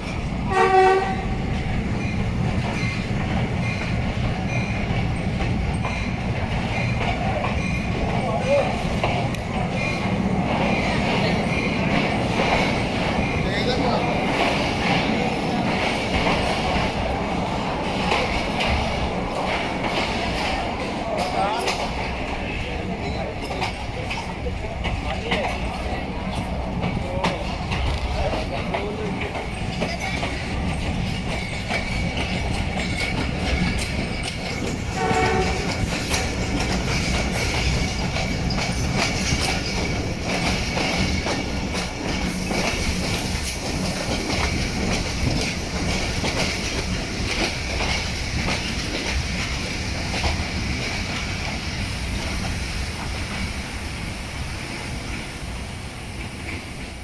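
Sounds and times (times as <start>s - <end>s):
wheels clacking over rail joints: 0.0s - 51.6s
train rumble: 0.0s - 57.0s.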